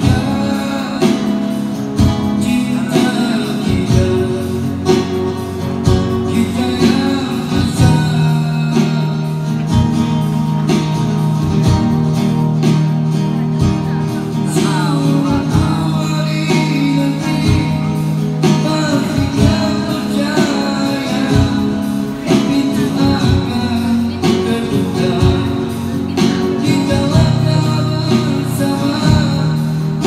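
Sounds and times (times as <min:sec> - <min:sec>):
man singing: 0:00.0 - 0:12.0, 0:13.6 - 0:30.0
acoustic guitar: 0:00.0 - 0:30.0.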